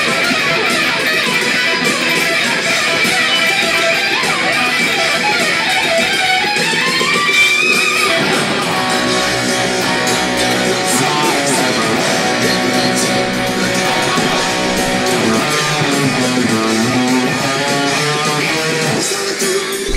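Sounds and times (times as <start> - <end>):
distorted electric guitar solo: 0.0 - 19.0.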